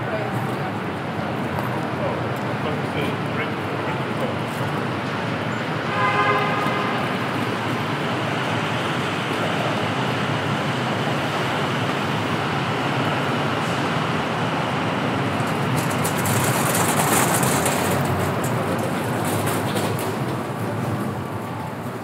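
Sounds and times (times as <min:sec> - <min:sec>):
terminal background noise: 0:00.0 - 0:22.0.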